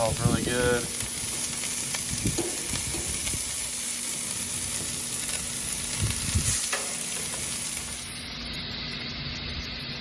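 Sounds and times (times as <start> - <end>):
food sizzling on griddle: 0.0 - 10.0.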